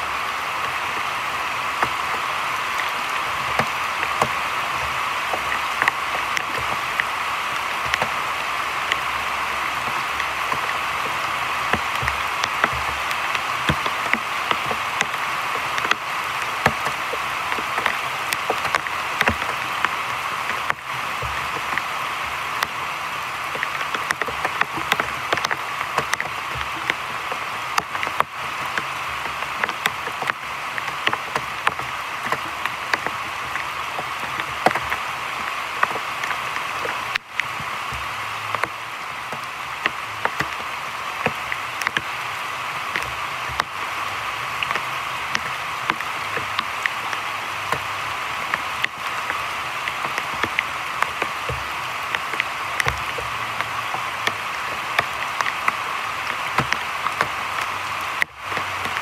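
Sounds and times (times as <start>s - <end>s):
heavy rain on water: 0.0s - 59.0s.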